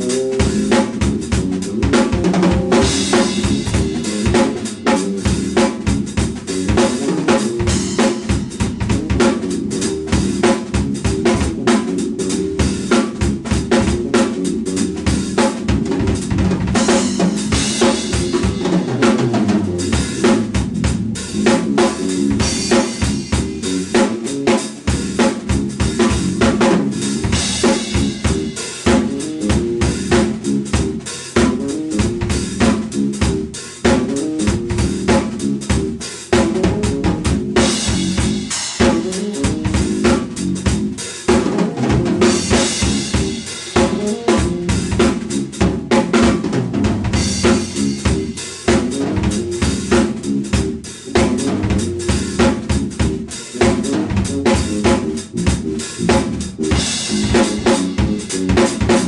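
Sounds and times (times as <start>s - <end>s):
drum kit played fast: 0.0s - 59.0s.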